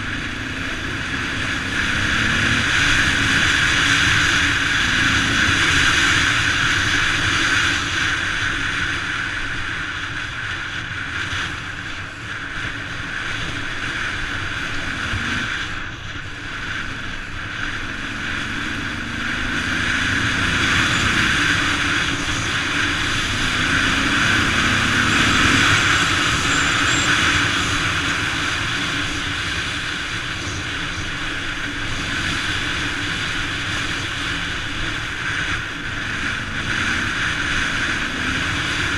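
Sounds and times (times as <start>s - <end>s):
propeller aircraft drone: 0.0s - 38.9s.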